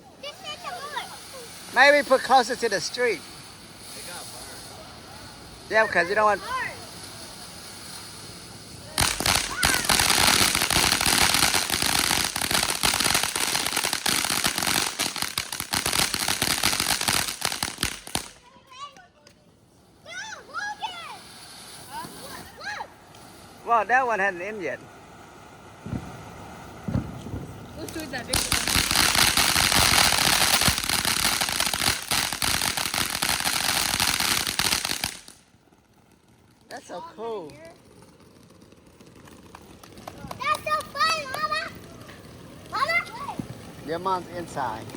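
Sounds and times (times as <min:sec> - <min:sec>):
firework crackling and hissing: 0:00.0 - 0:44.9.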